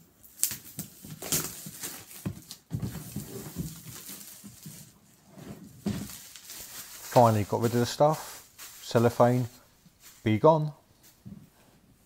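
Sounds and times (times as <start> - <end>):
cellophane crinkling and tearing: 0.2 - 10.4.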